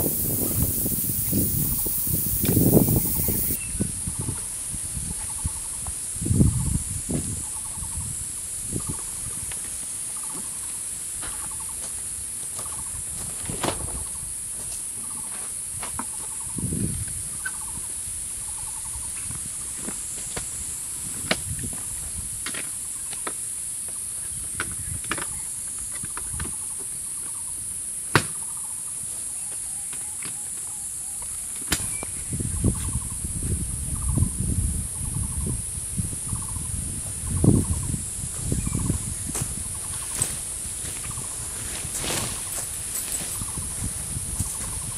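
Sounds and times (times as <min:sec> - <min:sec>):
steady high-pitched hiss: 0:00.0 - 0:44.9.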